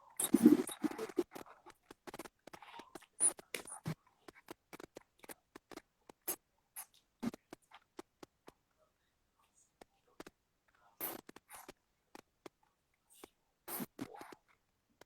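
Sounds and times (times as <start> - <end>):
soft irregular taps and clicks: 0.7 - 8.8, 9.5 - 15.0.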